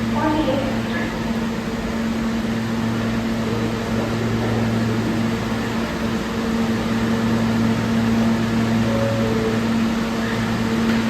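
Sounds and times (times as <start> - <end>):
subway train electrical hum: 0.0 - 11.0.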